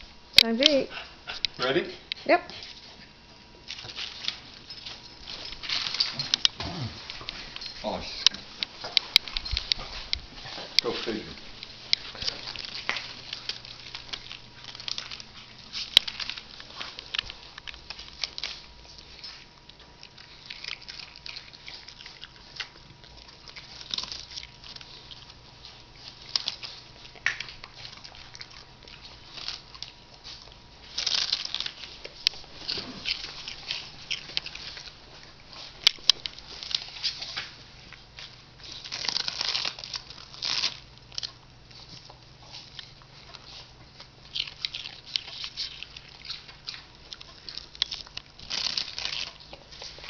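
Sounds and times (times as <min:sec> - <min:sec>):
dog crunching lettuce: 0:00.2 - 0:50.0.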